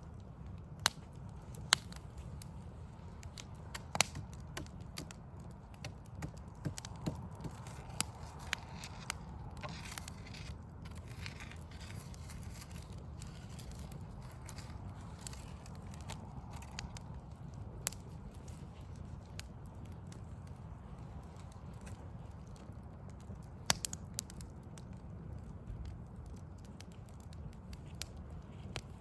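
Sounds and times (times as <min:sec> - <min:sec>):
wood fire crackling: 0:00.0 - 0:29.0
sharp fire pops: 0:00.5 - 0:24.9.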